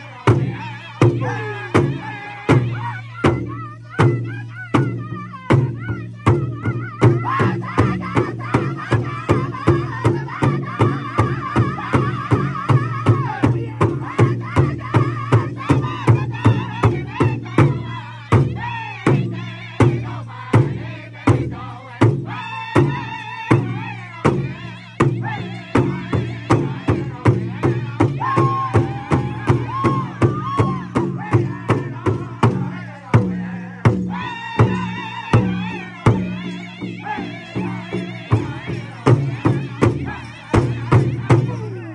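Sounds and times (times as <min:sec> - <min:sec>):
men singing in high voices: 0:00.0 - 0:41.9
large drum beating: 0:00.2 - 0:41.8.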